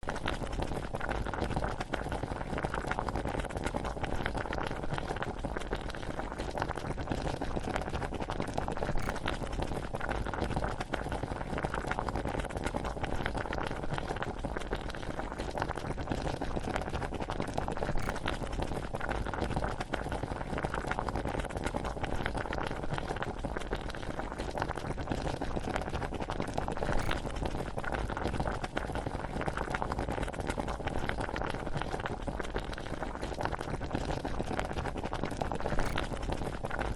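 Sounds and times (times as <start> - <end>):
pot of water boiling and bubbling: 0.0 - 36.9.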